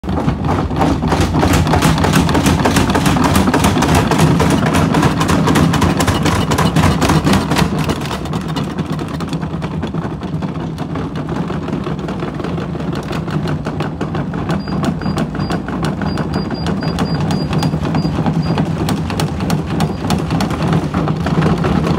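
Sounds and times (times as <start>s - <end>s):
washing machine drum and motor hum: 0.0s - 21.9s
washing machine knocking on floor: 0.0s - 21.9s.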